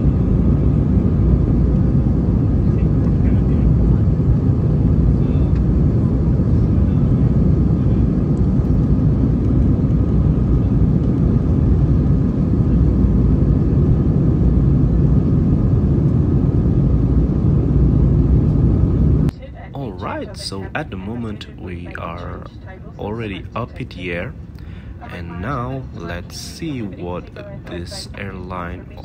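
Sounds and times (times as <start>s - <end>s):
airplane cabin engine rumble: 0.0s - 29.0s.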